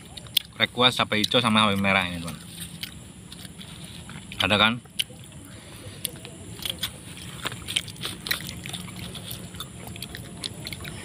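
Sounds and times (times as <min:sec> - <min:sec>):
light clicks and smacks of eating: 0:00.0 - 0:11.0.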